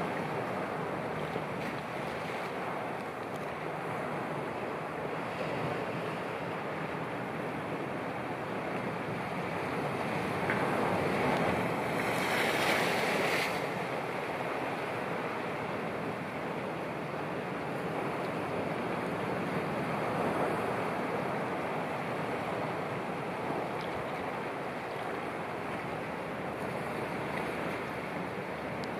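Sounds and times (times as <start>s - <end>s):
sea waves breaking: 0.0s - 28.9s.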